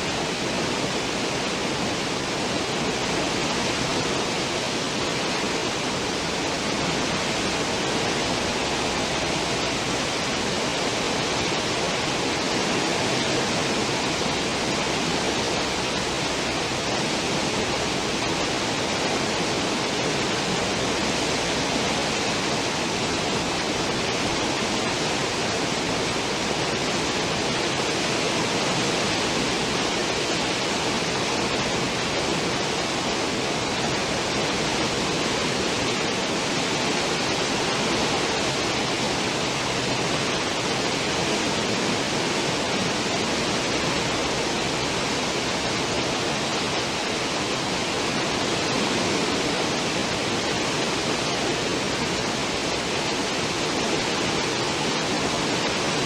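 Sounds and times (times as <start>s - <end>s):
foaming water rushing: 0.0s - 56.0s.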